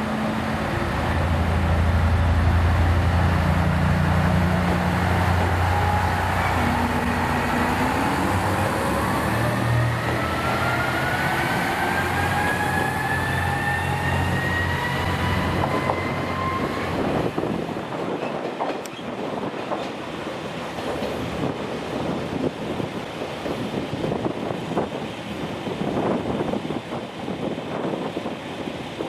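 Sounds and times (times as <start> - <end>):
diesel railcar engine: 0.0 - 29.0.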